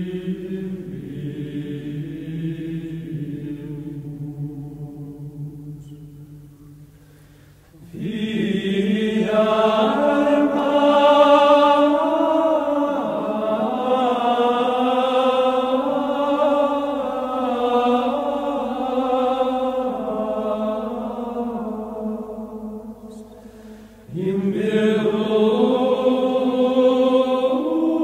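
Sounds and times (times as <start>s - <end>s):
slow choral chant: 0.0s - 28.0s.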